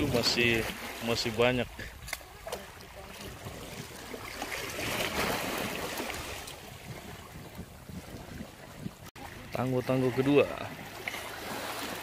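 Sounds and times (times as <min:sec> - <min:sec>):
shallow surf washing on beach: 0:00.0 - 0:12.0.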